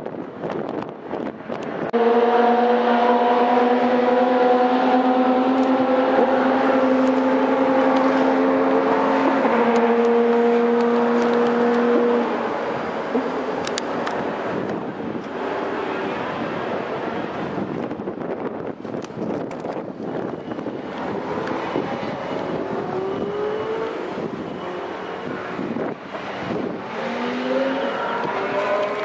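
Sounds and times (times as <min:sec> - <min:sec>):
engine drone: 0:01.9 - 0:17.8, 0:19.2 - 0:29.0.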